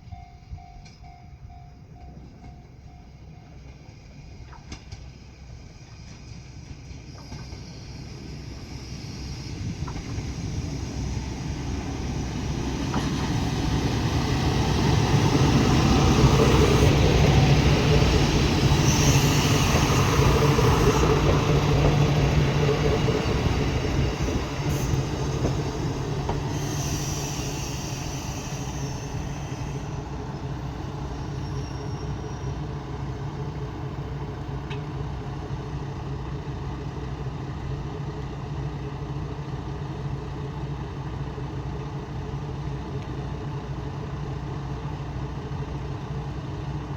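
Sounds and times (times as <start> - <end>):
diesel railcar rumbling on track: 0.0 - 46.9.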